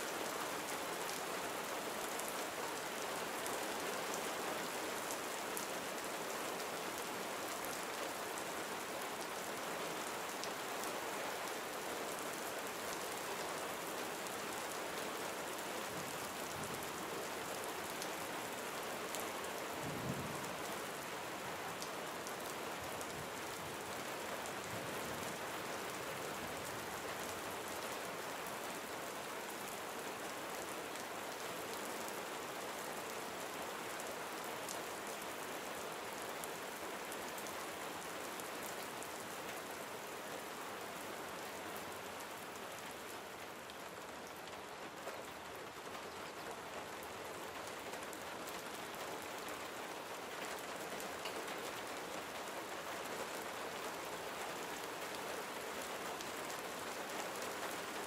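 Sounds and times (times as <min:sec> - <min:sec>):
gentle rain patter: 0:00.0 - 0:58.0.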